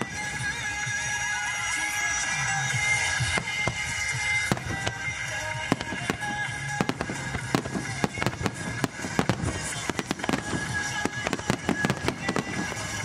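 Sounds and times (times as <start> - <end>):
fireworks bursting: 0.0 - 13.0
music playing: 0.0 - 13.0.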